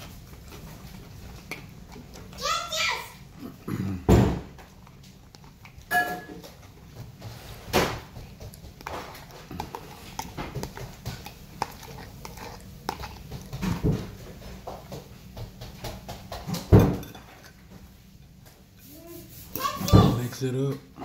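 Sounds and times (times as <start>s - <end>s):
chewing food: 0.0s - 18.6s.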